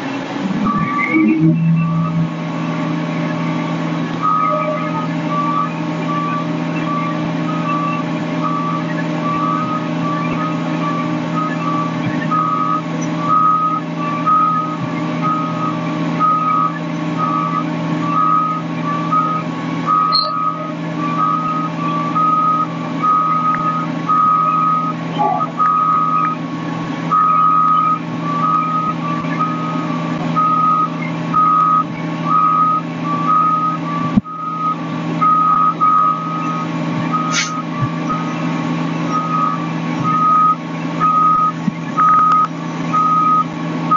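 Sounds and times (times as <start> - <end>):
diesel engine droning: 0.0 - 43.9
electronic warning alarm beeping: 0.4 - 2.4, 4.2 - 43.9.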